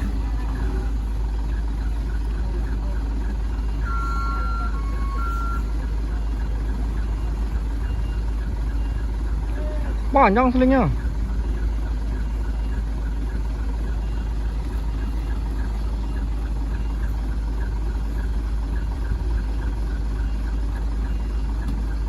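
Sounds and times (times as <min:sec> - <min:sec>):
diesel machinery rumbling: 0:00.0 - 0:22.0.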